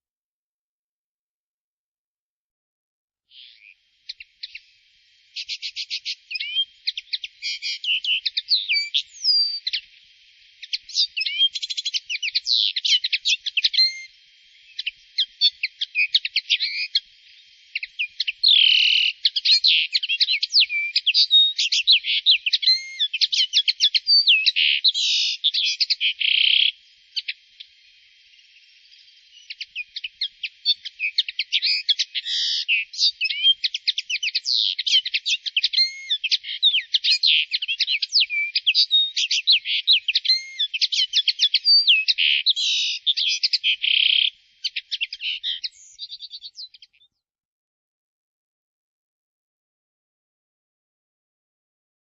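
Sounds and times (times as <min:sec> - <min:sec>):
songbird singing: 0:03.3 - 0:47.3.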